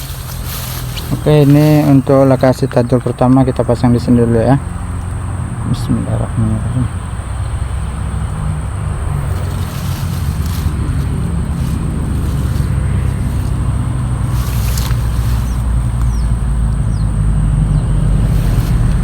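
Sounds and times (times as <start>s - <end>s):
small engine droning: 0.0s - 19.0s.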